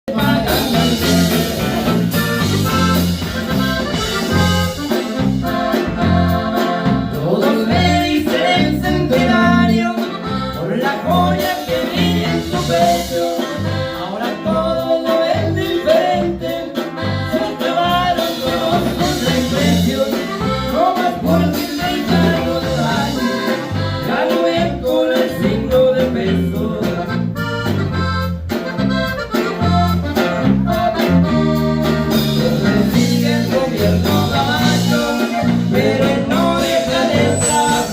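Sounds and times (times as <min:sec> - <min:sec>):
accordion melody: 0:00.0 - 0:37.9
pulsing bass line: 0:00.1 - 0:37.9.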